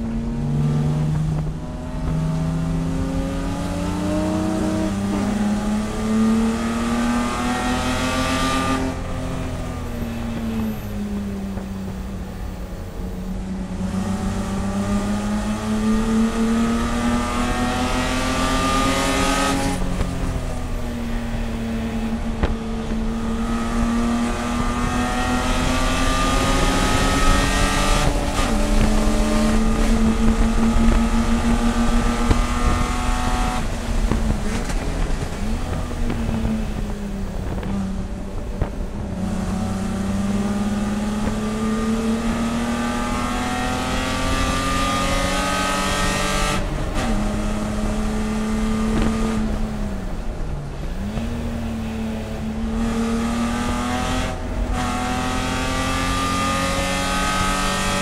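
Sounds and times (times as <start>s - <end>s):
engine blipping on downshifts: 0.0s - 58.0s
race car engine under load: 0.0s - 58.0s.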